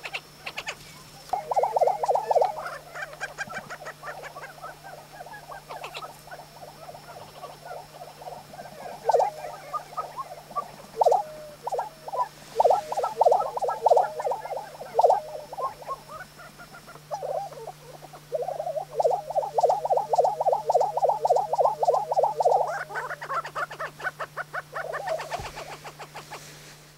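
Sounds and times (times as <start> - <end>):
prairie chickens gobbling calls: 0.0 - 26.6.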